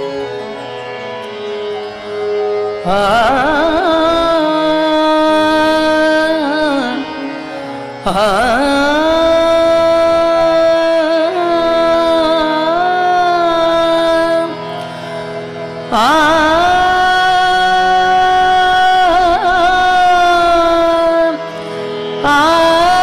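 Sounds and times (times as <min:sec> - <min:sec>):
sustained accompaniment chords: 0:00.0 - 0:23.0
devotional singing with vibrato: 0:02.8 - 0:14.6, 0:15.6 - 0:21.6, 0:22.2 - 0:23.0.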